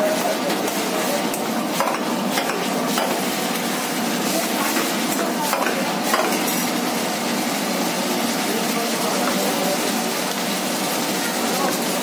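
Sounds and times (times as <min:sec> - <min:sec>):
steady sizzle: 0:00.0 - 0:12.0.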